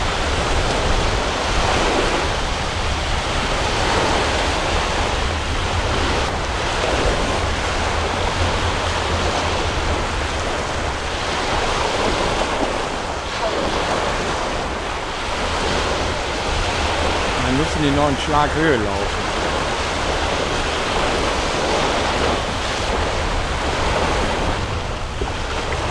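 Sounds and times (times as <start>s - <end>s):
choppy sea wash: 0.0s - 25.9s
wind buffeting microphone: 0.0s - 25.9s.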